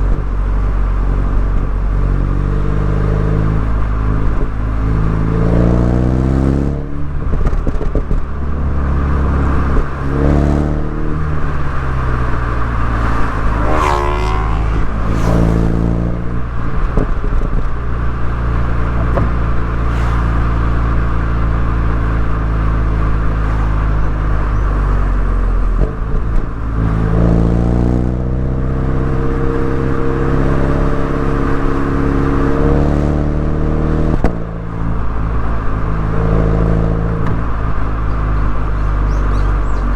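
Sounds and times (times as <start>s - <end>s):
car engine revving with gear changes: 0.0s - 39.9s.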